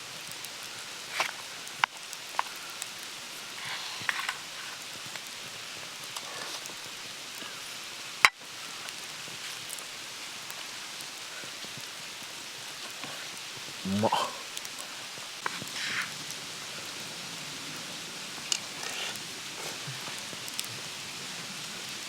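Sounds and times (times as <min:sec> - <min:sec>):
hiss with faint crackle: 0:00.0 - 0:22.0.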